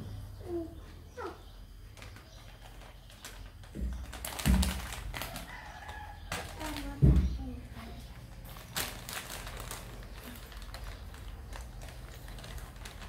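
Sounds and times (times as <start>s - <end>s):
plastic bag crinkling: 1.9s - 13.0s.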